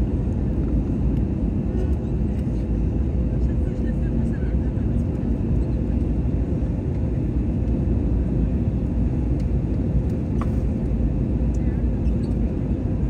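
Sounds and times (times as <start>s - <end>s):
aircraft engine and airflow rumble: 0.0s - 13.0s.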